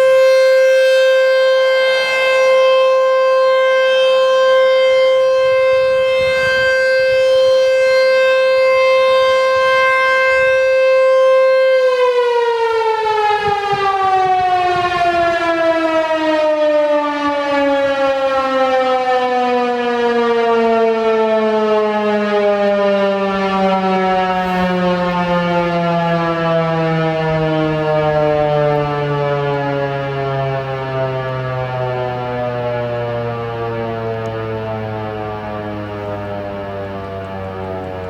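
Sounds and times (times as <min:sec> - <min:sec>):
outdoor warning siren winding down: 0:00.0 - 0:38.0.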